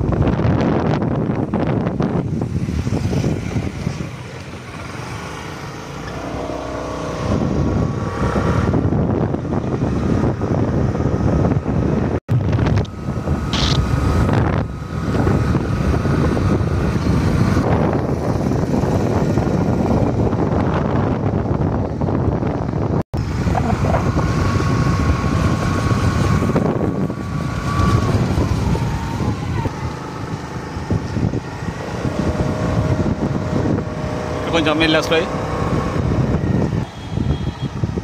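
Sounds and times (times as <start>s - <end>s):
vehicle road noise: 0.0s - 38.0s
wind buffeting microphone: 0.0s - 38.0s.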